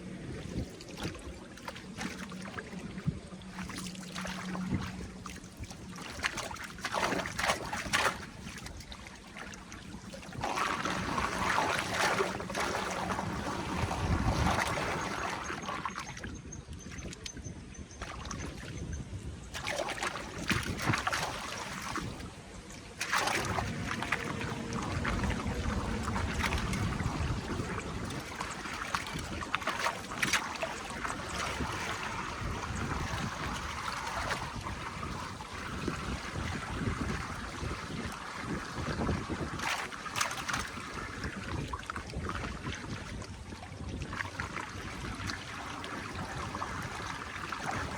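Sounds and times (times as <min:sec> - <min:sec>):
water rushing and splashing: 0:00.0 - 0:17.4, 0:18.0 - 0:47.9.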